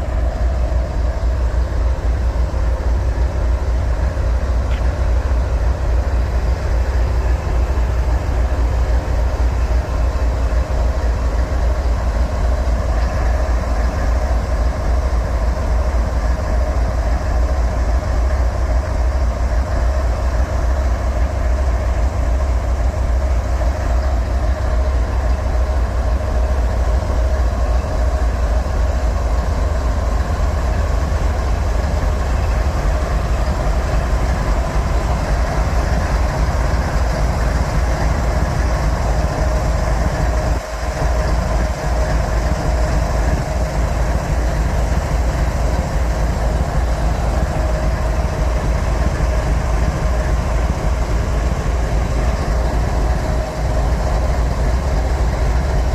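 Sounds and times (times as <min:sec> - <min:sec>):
faint steady whine: 0:00.0 - 0:55.9
train cars rumbling past: 0:00.0 - 0:55.9.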